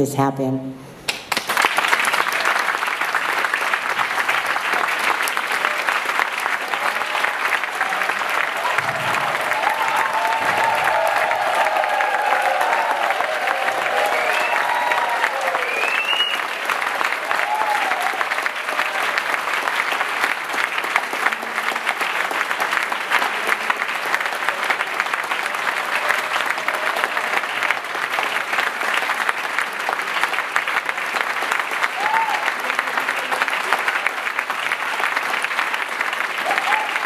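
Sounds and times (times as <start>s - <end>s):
audience applause: 1.1s - 37.0s.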